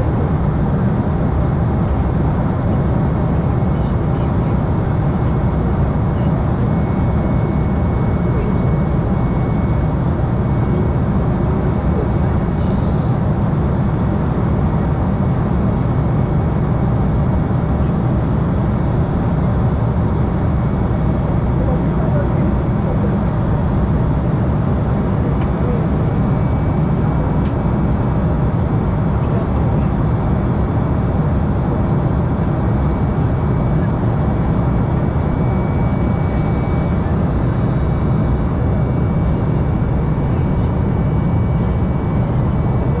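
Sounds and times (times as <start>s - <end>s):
airplane cabin rumble: 0.0s - 43.0s
jet engine drone: 0.0s - 43.0s.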